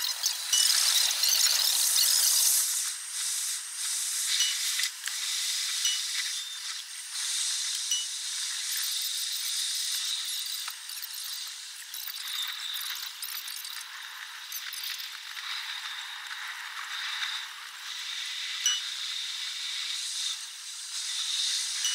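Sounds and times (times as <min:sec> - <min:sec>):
high hiss: 0:00.0 - 0:21.9.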